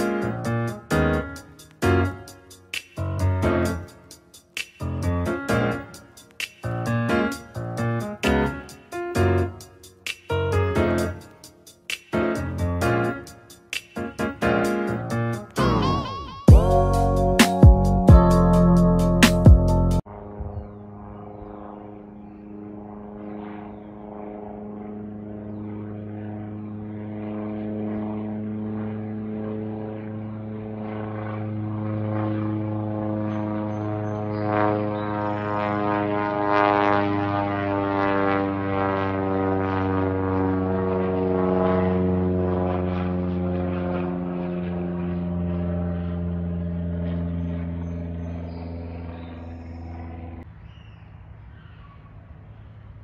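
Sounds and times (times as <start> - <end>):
propeller plane flying overhead: 0.0 - 53.0.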